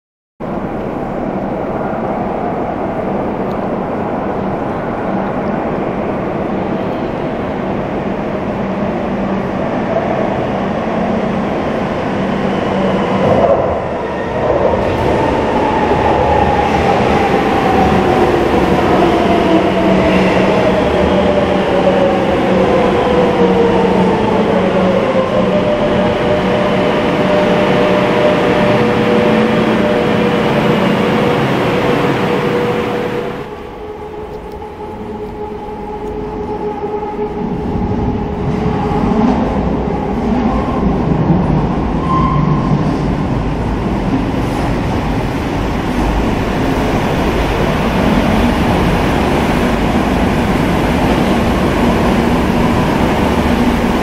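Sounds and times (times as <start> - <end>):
train rumble: 0.4 - 54.0.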